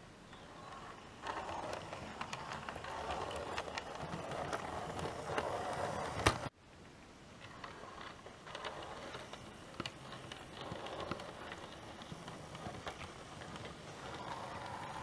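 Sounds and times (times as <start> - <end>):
model train wheels rattling: 0.4 - 6.5, 7.4 - 15.0.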